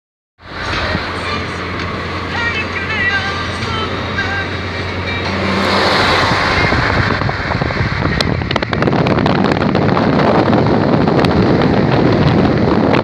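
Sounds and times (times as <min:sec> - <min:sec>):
car road noise: 0:00.4 - 0:13.0
wind buffeting microphone: 0:00.6 - 0:13.0.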